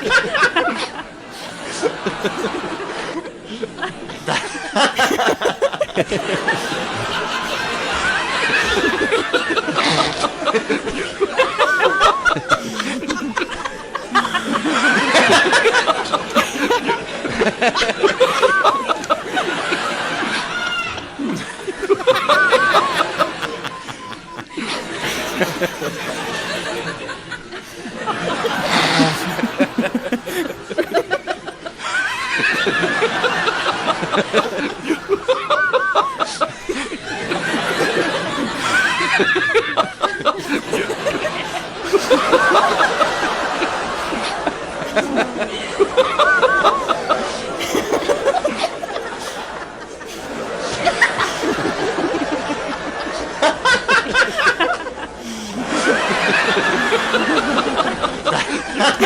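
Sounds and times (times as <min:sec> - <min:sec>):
crowd laughing: 0:00.0 - 0:59.0
high-pitched laughs: 0:00.0 - 0:59.0.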